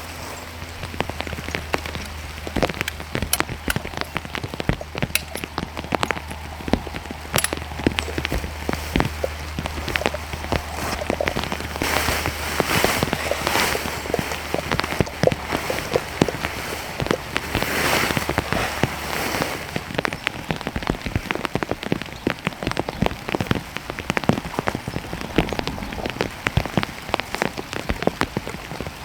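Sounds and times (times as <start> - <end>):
rain falling: 0.0 - 29.0
raindrops hitting close by: 0.0 - 29.0.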